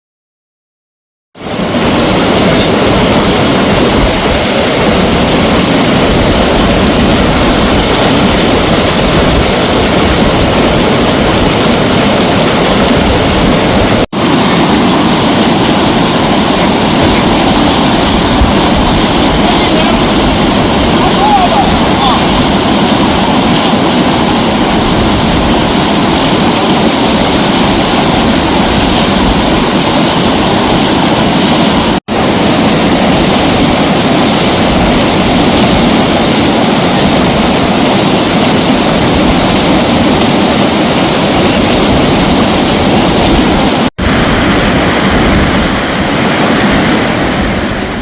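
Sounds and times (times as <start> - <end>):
white water rushing: 1.4 - 48.0.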